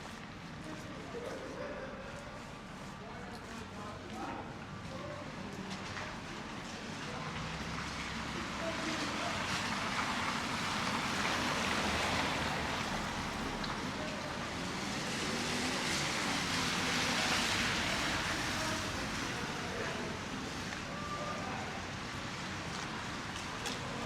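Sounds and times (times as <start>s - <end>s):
vehicles passing: 4.4s - 24.0s
city street traffic hiss: 4.6s - 24.0s.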